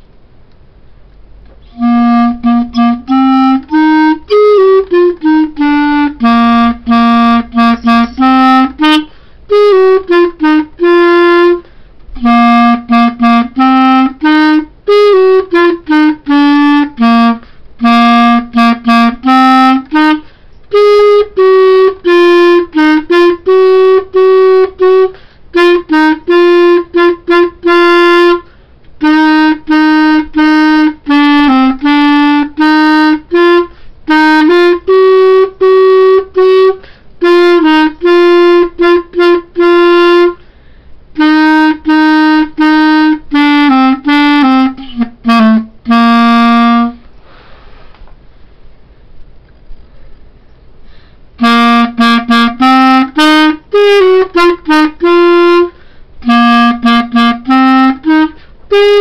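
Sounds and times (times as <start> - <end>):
solo clarinet melody: 1.5 - 47.7, 50.9 - 59.0.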